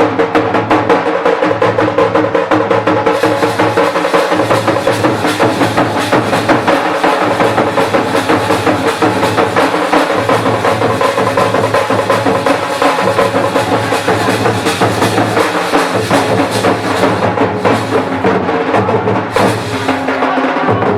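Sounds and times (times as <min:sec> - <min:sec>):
drum band fast rhythm: 0:00.0 - 0:20.9
cymbals: 0:03.0 - 0:20.9.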